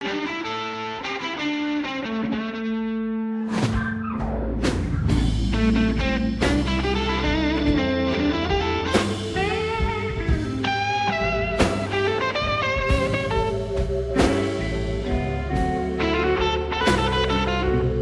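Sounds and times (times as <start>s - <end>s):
electric guitar blues lead: 0.0s - 3.4s, 4.0s - 18.0s
drums: 3.4s - 18.0s.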